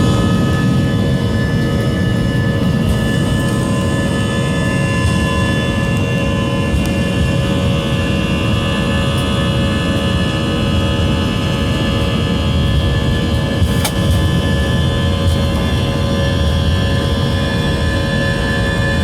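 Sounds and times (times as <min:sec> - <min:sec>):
jet engine low rumble: 0:00.0 - 0:19.0
jet engine whining tones: 0:00.0 - 0:19.0.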